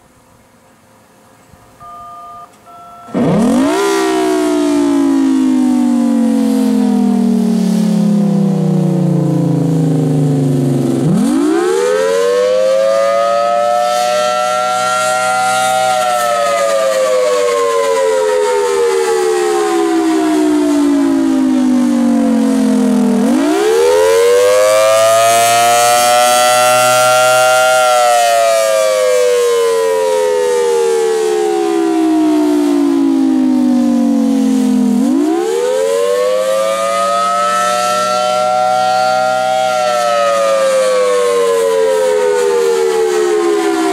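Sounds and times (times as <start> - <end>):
siren wailing: 1.8 - 43.9.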